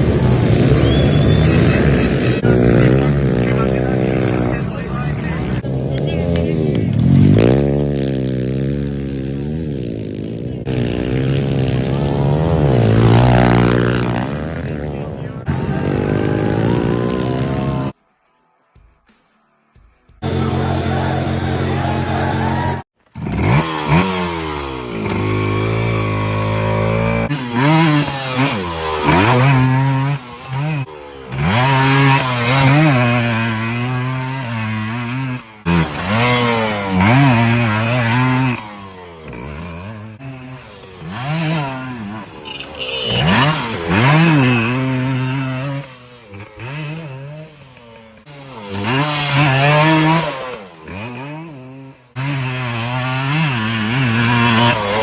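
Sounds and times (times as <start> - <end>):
motocross bike engines revving: 0.0 - 18.0, 20.2 - 55.0.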